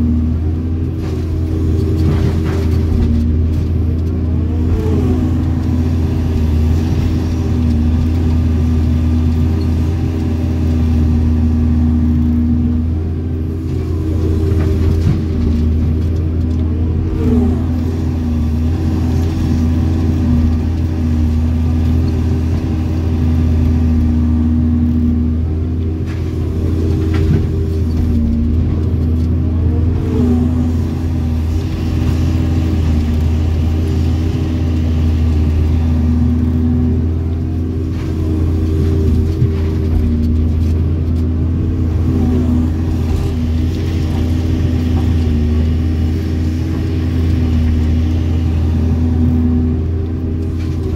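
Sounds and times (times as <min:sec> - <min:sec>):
excavator engine low drone: 0:00.0 - 0:50.9.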